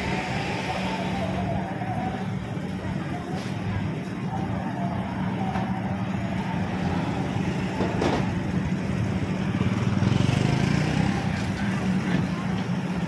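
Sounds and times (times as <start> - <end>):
car and motorcycle engines humming: 0.0 - 13.0.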